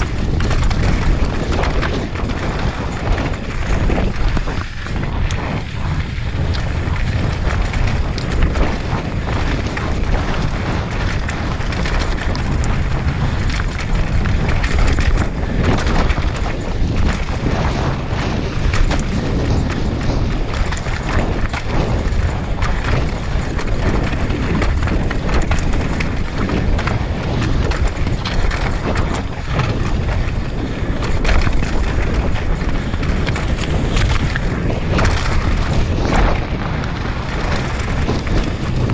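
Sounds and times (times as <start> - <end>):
bike knocks and rattles: 0.0 - 38.9
bike tyres rumbling over gravel: 0.0 - 38.9
wind buffeting microphone: 0.0 - 38.9.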